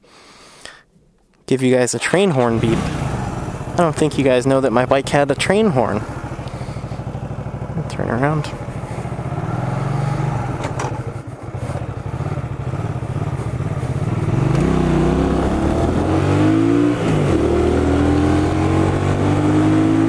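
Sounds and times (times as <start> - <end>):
motorcycle engine accelerating: 2.4 - 20.0.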